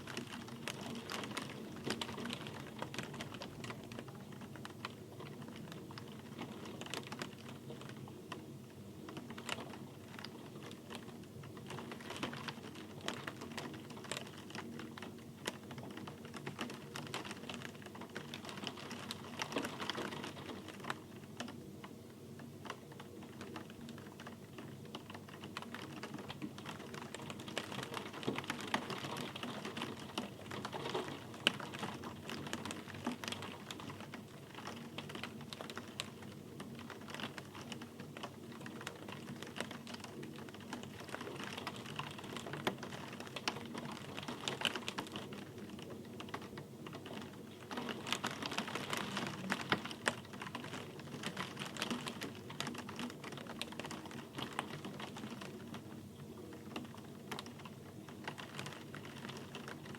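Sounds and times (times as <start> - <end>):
rain drops tapping: 0.0 - 59.9.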